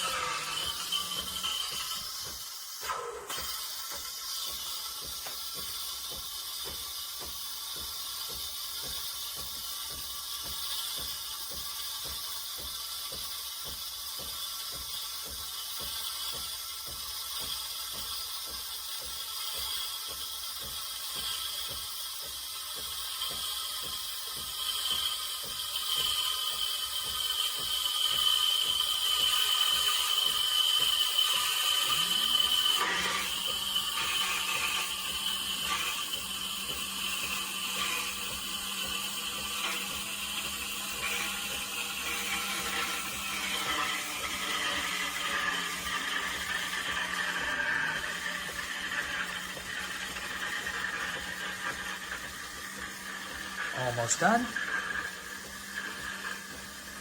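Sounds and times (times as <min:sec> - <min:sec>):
steam wand hissing in milk: 0:00.0 - 0:57.0.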